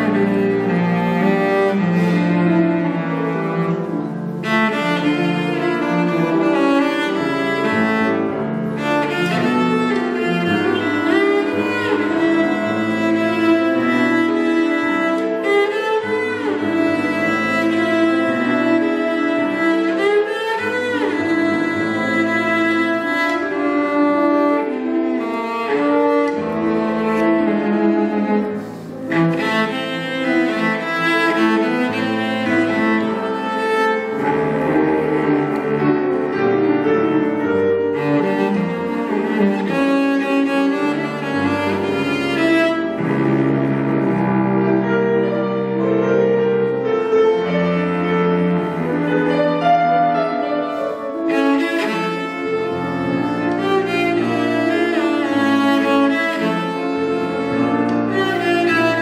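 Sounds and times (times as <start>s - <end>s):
cello bowing low notes: 0.0s - 59.0s
piano accompaniment: 0.0s - 59.0s.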